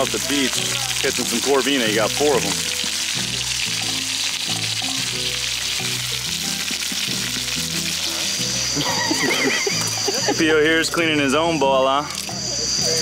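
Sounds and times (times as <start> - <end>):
background music: 0.0 - 13.0
fish sizzling in hot oil: 0.0 - 13.0.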